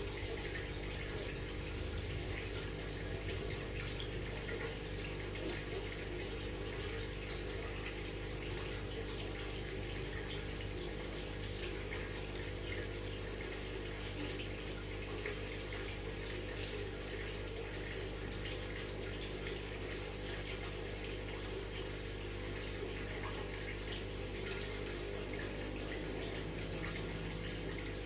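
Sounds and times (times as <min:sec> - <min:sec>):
aquarium water bubbling: 0:00.0 - 0:28.0
small water splashes: 0:00.0 - 0:28.0.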